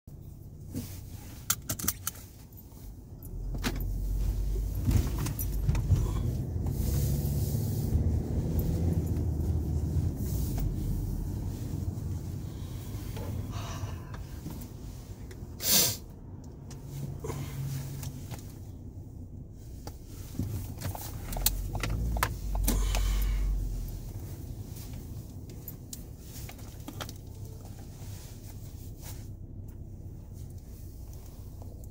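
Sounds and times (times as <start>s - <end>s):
car cabin road noise: 0.1s - 31.9s.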